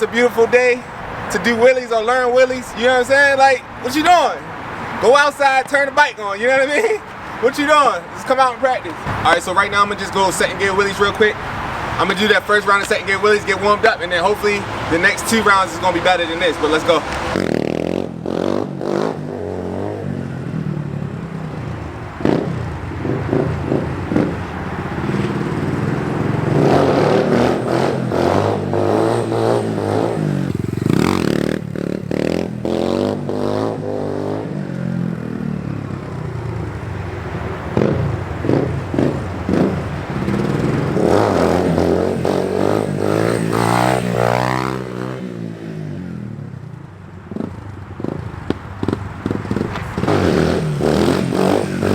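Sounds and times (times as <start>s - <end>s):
dirt bike engine revving: 0.0s - 20.3s, 21.4s - 46.1s, 47.3s - 51.9s.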